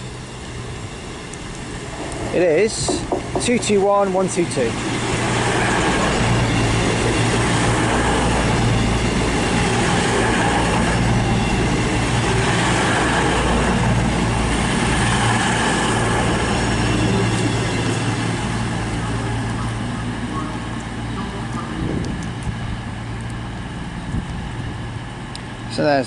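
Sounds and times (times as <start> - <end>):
train diesel engines idling: 0.0 - 26.0.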